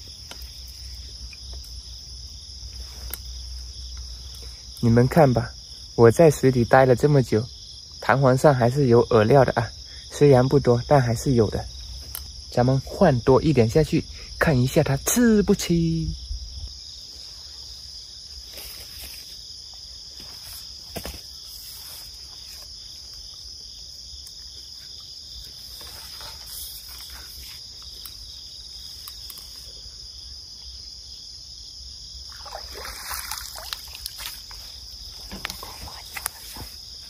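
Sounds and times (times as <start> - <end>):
crickets chirring: 0.0 - 37.0.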